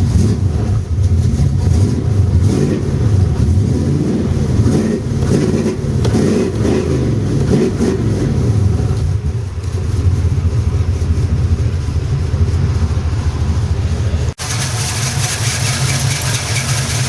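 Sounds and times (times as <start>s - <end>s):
old car engine idling: 0.0s - 6.2s, 7.2s - 17.0s.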